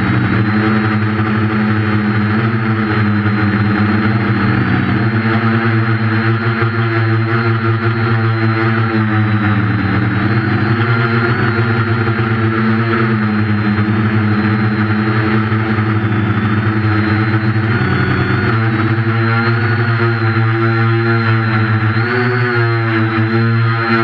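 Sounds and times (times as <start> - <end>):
quadcopter propellers buzzing: 0.0 - 24.0.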